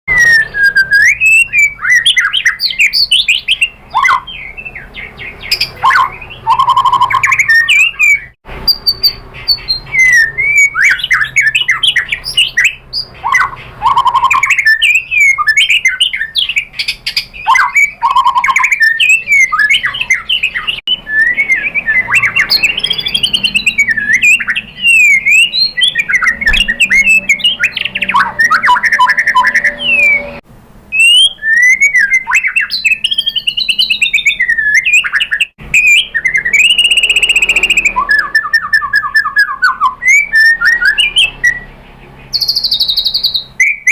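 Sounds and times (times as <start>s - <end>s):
songbird singing whistles and trills: 0.1s - 43.9s.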